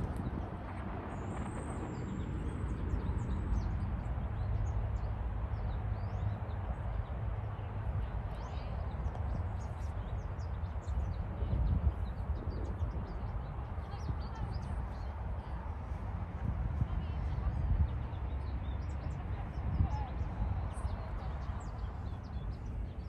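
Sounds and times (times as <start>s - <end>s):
songbirds chirping: 0.3s - 23.0s.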